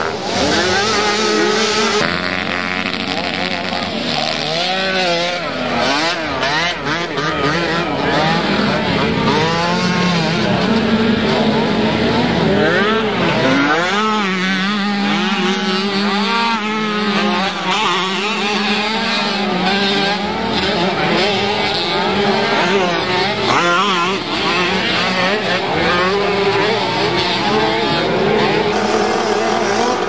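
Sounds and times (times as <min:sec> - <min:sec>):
quad engines revving: 0:00.0 - 0:30.0.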